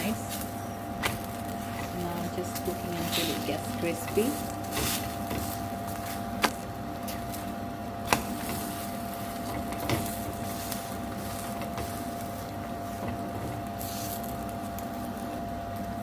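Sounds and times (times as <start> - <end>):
food sizzling on a griddle: 0.0 - 6.2, 8.2 - 15.3
steady tonal hum: 0.0 - 16.0.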